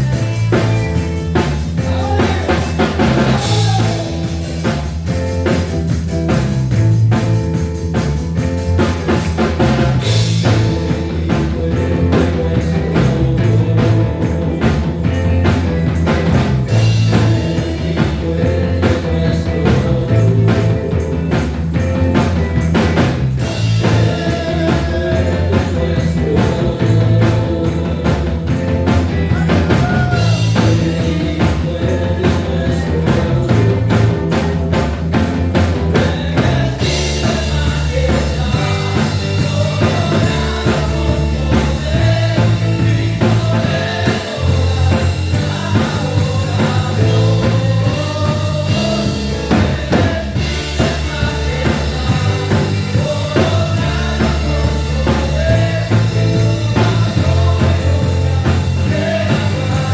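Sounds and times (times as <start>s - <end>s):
bass line: 0.0s - 59.9s
drums: 0.0s - 59.9s
worship band music: 0.0s - 59.9s.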